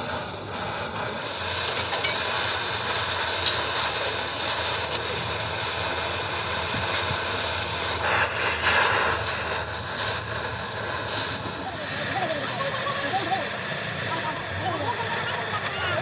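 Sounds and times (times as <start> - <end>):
steady loud hiss: 0.0 - 16.0.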